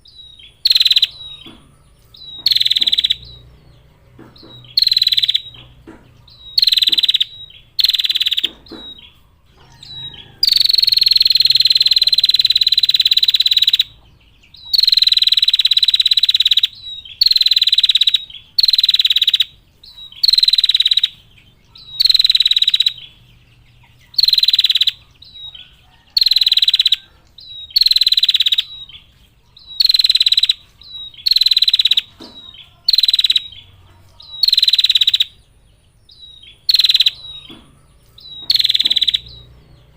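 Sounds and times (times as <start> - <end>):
bird trilling call: 0.0 - 39.9.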